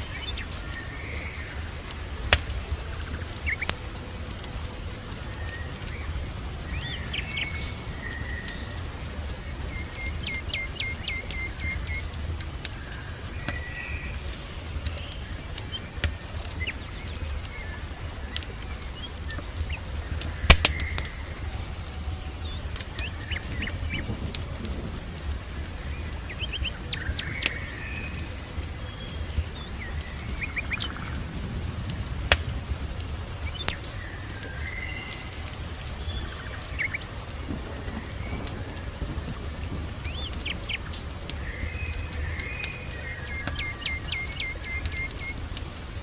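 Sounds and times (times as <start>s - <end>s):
small birds chirping: 0.0s - 46.0s
steady low rumble: 0.0s - 46.0s
wood fire crackling: 0.0s - 46.0s.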